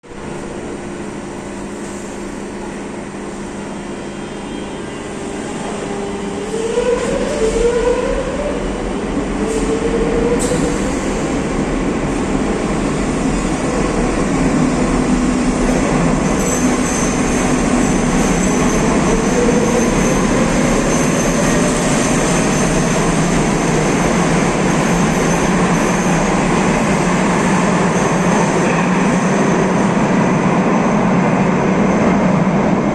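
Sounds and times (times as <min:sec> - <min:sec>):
train hum: 0:00.0 - 0:32.9.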